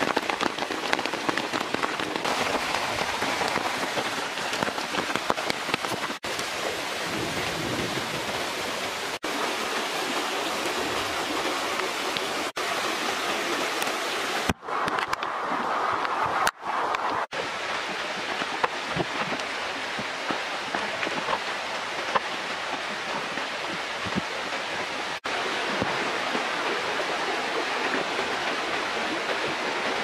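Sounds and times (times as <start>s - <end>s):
heavy rain on leaves: 0.0s - 30.0s.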